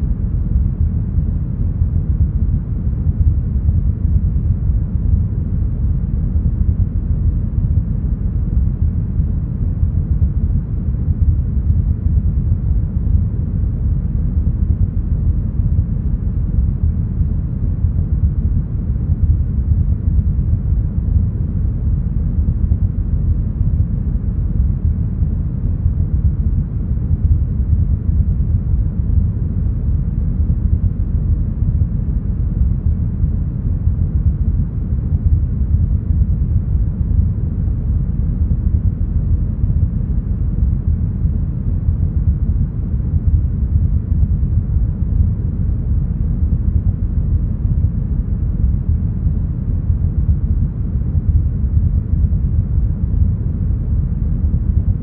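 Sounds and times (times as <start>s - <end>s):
deep brown noise: 0.0s - 55.0s.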